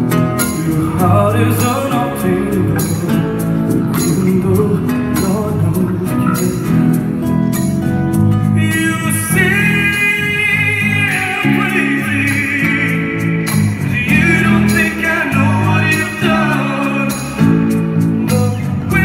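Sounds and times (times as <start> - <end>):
male lead vocal: 0.0 - 7.6, 8.3 - 19.0
bass guitar: 0.0 - 19.0
strummed acoustic guitars: 0.0 - 19.0.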